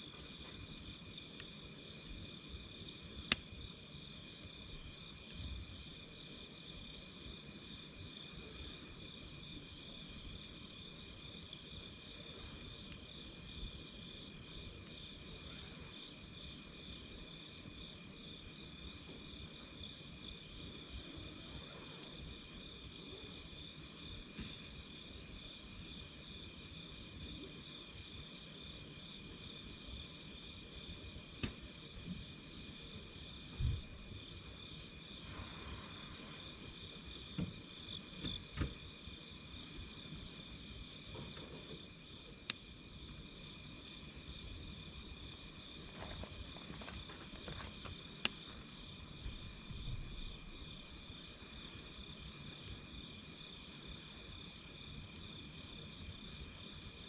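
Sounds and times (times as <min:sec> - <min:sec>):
campfire crackling: 0:00.0 - 0:57.0
insects chirping: 0:00.0 - 0:57.0.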